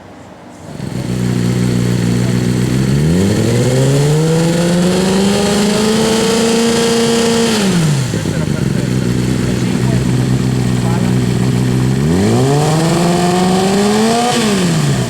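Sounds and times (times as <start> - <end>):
motorcycle engine revving: 0.6 - 15.0.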